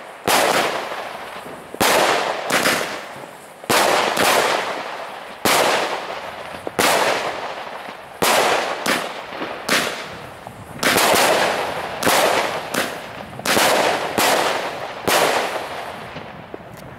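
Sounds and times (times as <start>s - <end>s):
fireworks hiss: 0.0s - 16.7s
fireworks shots: 0.0s - 16.9s.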